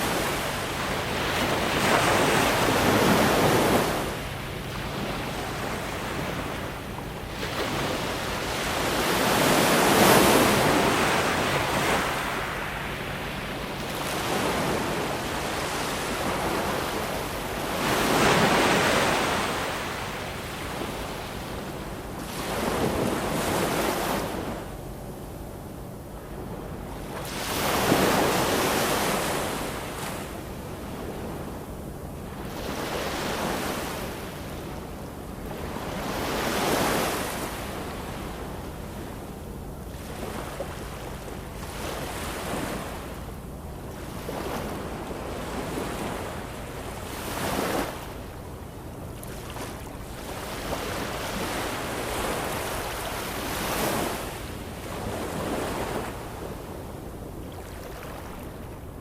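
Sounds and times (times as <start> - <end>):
waves breaking on shore: 0.0 - 24.8, 25.6 - 59.0
low sea rumble: 0.0 - 59.0.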